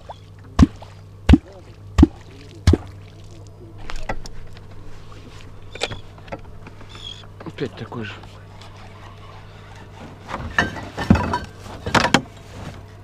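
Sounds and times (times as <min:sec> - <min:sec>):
water sounds: 0:00.0 - 0:11.9.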